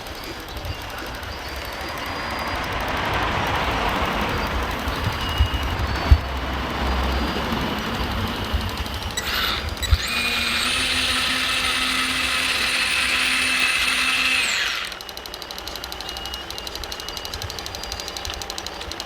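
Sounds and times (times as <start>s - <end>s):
fast even ticking: 0.0s - 19.0s
hydraulic pump motor whining: 0.0s - 19.0s.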